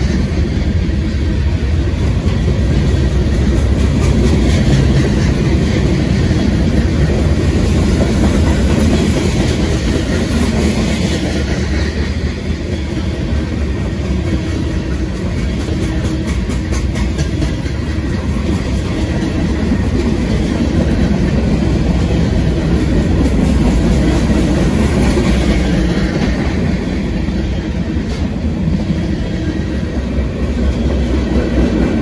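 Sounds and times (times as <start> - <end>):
freight train rolling past: 0.0 - 32.0
wheels clattering on rails: 0.0 - 32.0.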